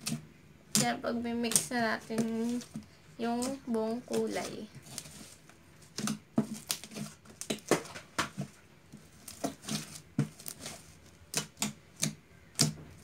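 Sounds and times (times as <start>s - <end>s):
slime squelching by hand: 0.0s - 13.0s.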